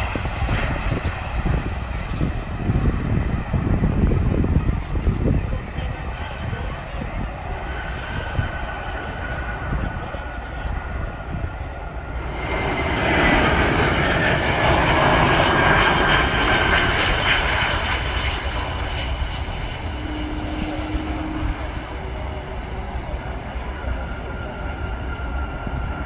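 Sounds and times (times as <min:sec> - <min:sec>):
jet engines landing: 0:00.0 - 0:26.0.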